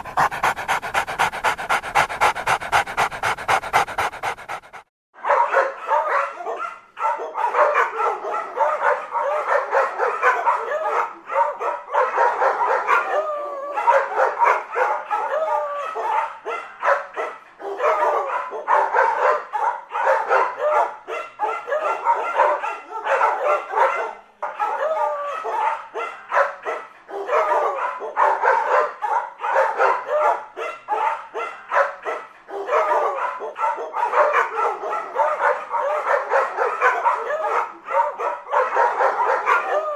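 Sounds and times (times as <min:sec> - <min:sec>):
dogs barking: 0:00.0 - 0:39.9.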